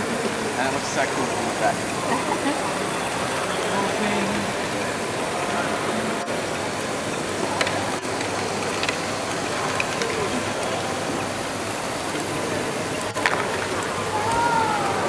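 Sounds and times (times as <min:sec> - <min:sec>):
background chatter: 0:00.0 - 0:15.0.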